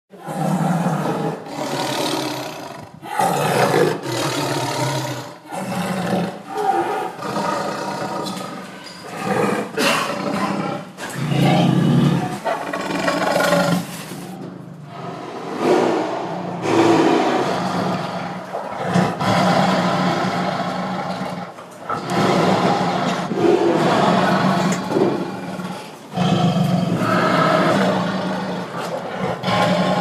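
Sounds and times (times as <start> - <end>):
tiger roaring and snarling: 0.1 - 30.0.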